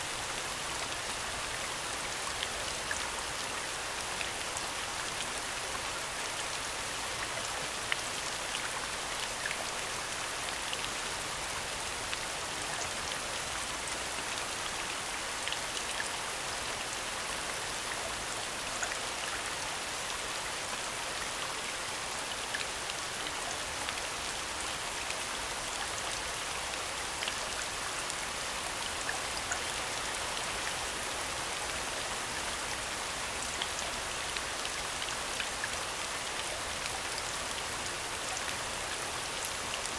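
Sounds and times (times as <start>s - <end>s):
steady falling rain: 0.0s - 39.9s.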